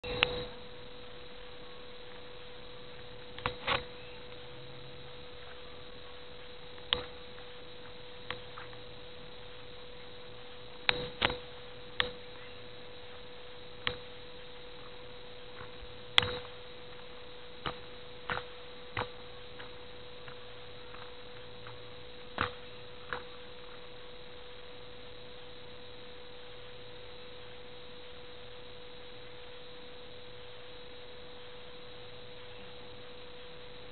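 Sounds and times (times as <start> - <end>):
camera electrical hum: 0.0 - 33.9.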